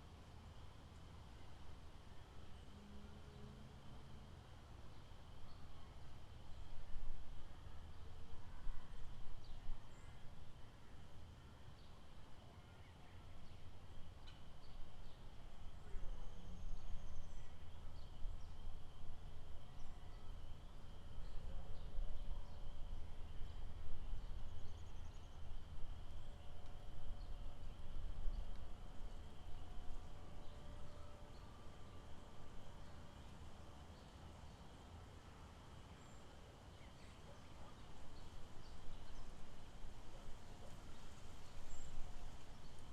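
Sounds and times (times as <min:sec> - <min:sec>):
constant low rumble: 0:00.0 - 0:42.9.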